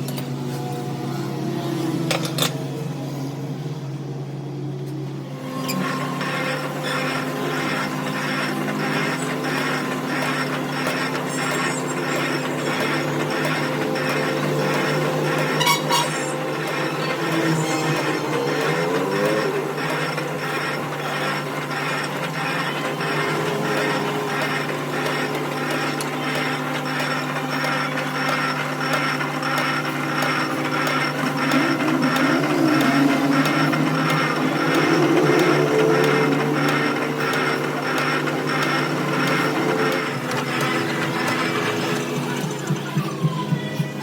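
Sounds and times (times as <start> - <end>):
workshop machinery humming: 0.0 - 44.0
mechanical clatter: 5.4 - 44.0.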